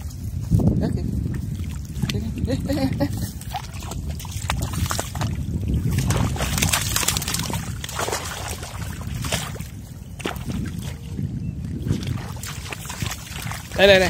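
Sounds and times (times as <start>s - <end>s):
splashing in shallow water: 1.2s - 14.0s.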